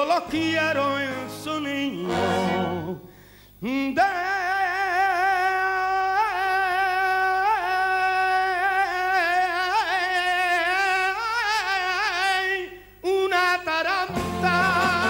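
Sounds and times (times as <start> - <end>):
man singing a long note: 0.0 - 15.0.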